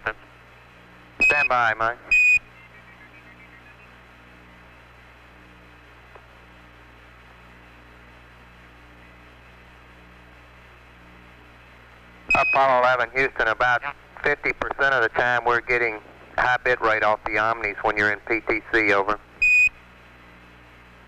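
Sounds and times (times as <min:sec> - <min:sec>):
faint radio hiss: 0:00.0 - 0:21.0
low electrical hum: 0:00.0 - 0:21.0.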